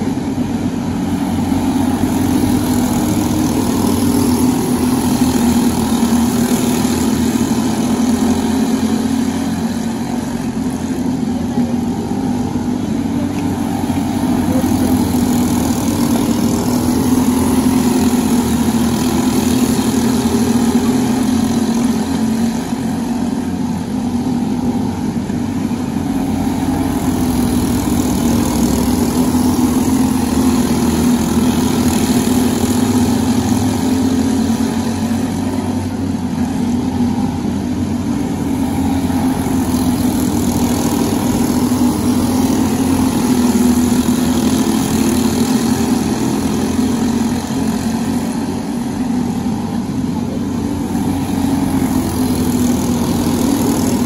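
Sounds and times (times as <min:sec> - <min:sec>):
kart engines racing: 0:00.0 - 0:54.0.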